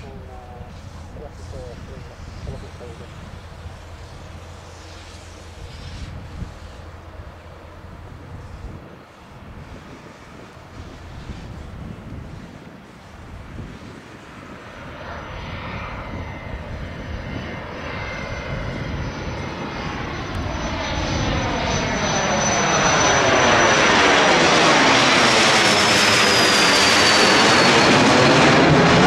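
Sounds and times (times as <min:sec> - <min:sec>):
jet taking off: 0:00.0 - 0:29.0.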